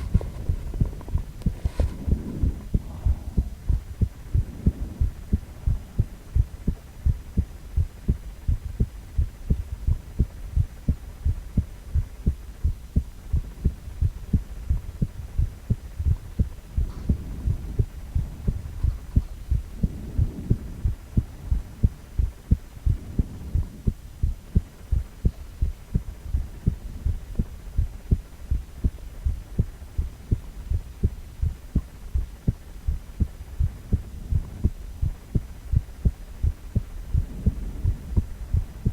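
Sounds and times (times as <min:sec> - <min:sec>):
heartbeat thumps: 0:00.0 - 0:38.9.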